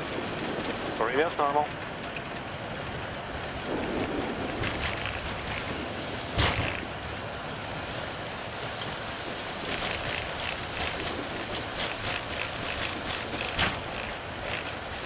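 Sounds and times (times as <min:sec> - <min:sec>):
aircraft rush and rumble: 0:00.0 - 0:15.0.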